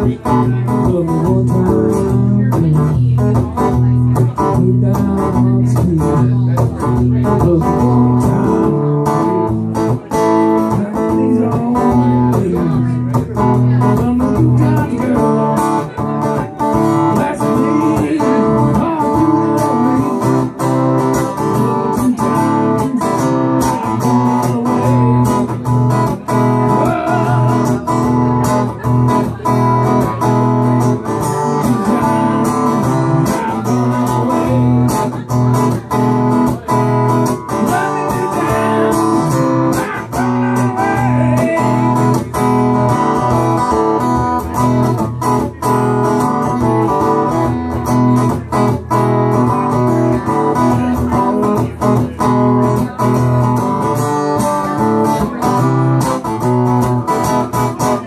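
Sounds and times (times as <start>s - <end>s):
acoustic guitar strummed: 0.0s - 58.0s.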